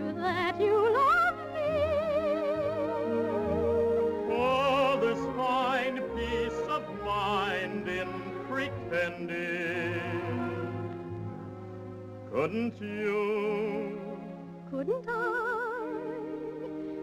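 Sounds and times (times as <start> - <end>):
operatic singing: 0.0 - 11.0, 12.3 - 17.0
orchestra playing: 0.0 - 17.0.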